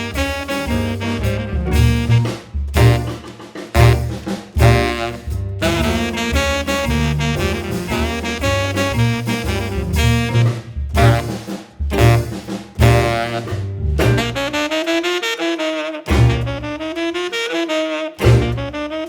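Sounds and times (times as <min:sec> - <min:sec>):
saxophone-led jazz band: 0:00.0 - 0:19.0.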